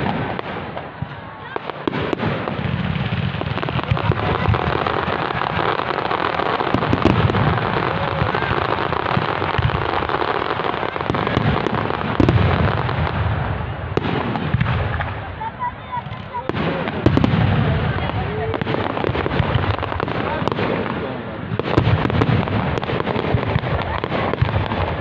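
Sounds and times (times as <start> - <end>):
deep fireworks booms: 0.0 - 25.0
fireworks crackling: 0.0 - 25.0.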